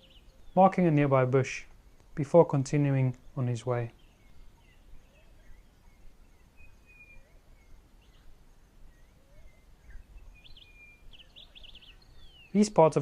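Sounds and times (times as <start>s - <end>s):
distant birds calling: 0.0s - 13.0s.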